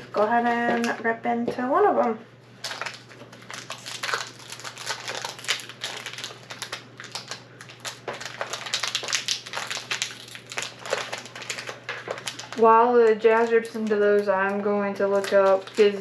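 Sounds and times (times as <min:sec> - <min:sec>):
foil wrapper crinkling and tearing: 0:02.6 - 0:16.0.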